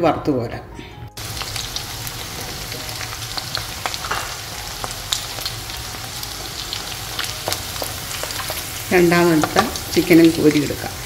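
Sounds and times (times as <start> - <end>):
chicken deep-frying in oil: 1.2 - 11.0
oil popping and crackling: 1.2 - 11.0.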